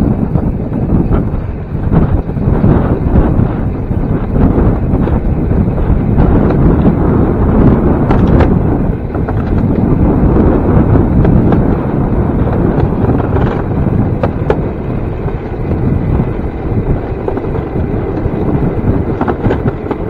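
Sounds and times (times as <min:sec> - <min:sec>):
wheels rumbling on rail track: 0:00.0 - 0:20.0
wind buffeting microphone: 0:00.0 - 0:20.0.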